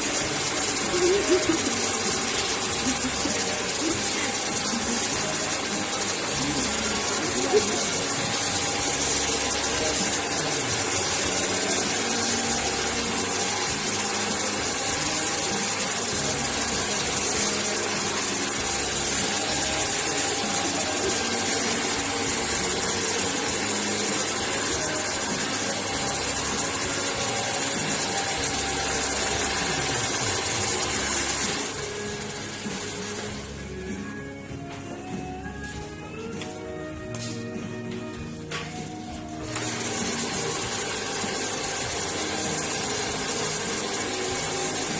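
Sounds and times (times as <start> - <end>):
hair dryer blowing: 0.0 - 33.9, 38.7 - 44.9.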